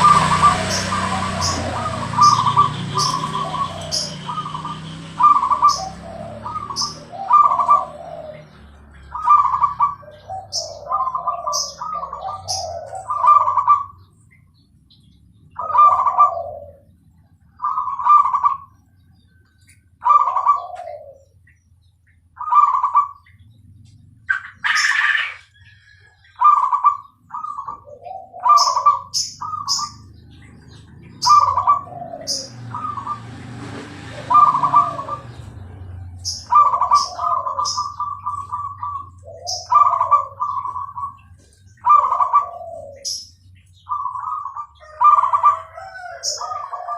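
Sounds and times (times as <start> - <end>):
dove cooing: 0.0 - 14.2, 15.6 - 19.2, 20.0 - 21.6, 22.4 - 46.9.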